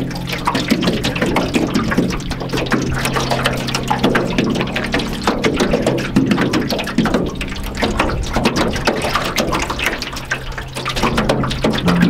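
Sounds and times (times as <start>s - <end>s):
waves lapping against canoe hull: 0.0s - 12.0s.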